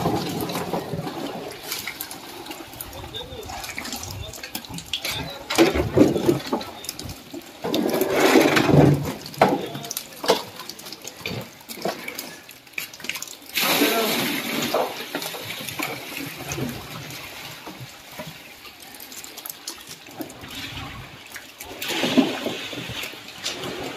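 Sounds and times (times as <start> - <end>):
fish slapping and splashing: 0.0 - 23.9
rush of water: 0.0 - 23.9.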